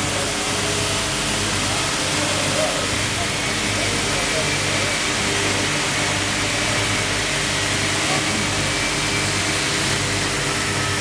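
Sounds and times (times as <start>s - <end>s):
vacuum pump humming and hissing: 0.0s - 11.0s.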